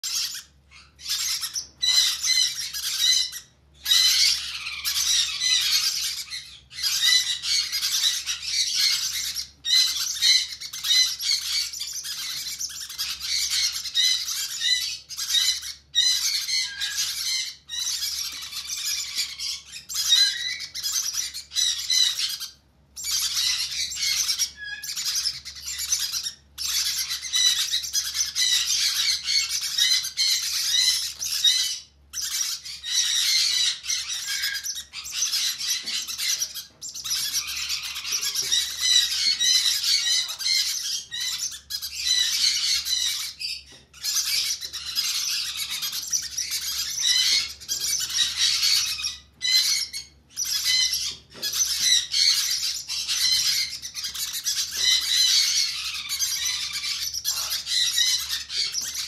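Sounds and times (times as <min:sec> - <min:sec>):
bird chicks squawking: 0:00.0 - 0:59.0.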